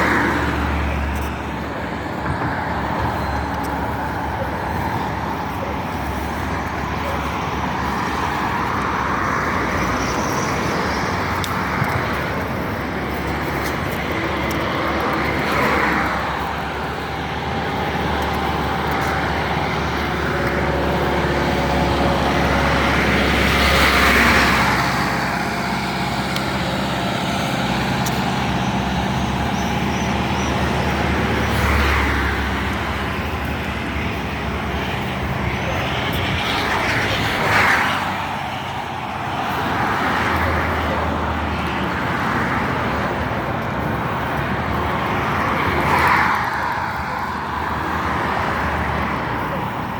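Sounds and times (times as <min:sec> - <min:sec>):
road traffic rushing: 0:00.0 - 0:49.9
vehicles passing close by: 0:00.0 - 0:49.9.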